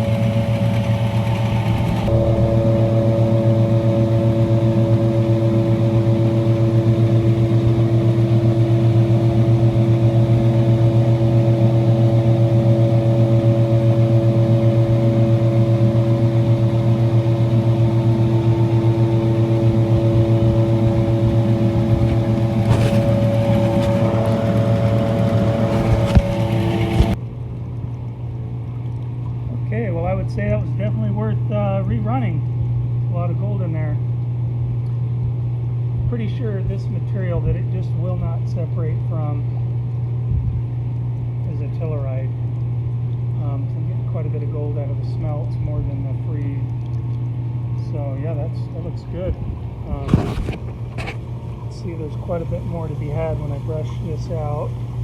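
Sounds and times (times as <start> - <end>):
crusher machine drone: 0.0 - 29.9, 32.7 - 55.0.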